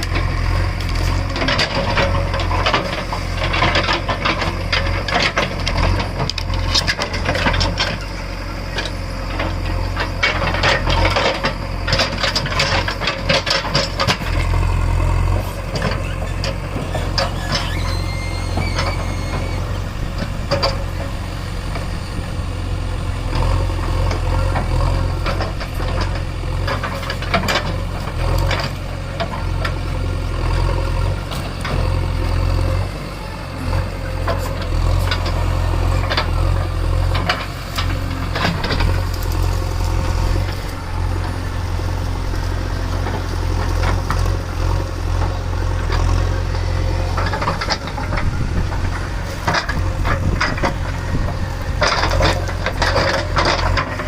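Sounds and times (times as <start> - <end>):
machine rattling and scraping: 0.0 - 33.0, 33.6 - 54.0
diesel engine running: 0.0 - 54.0.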